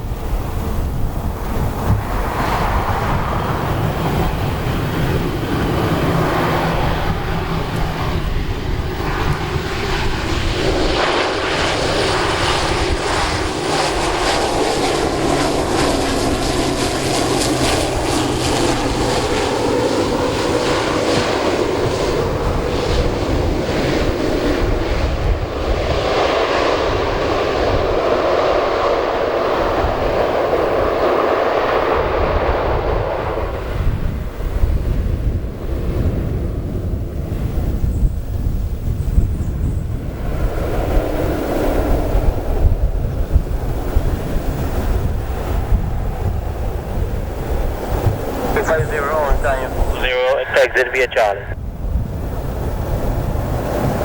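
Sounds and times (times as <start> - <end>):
turboprop engines and propellers: 0.0 - 54.0.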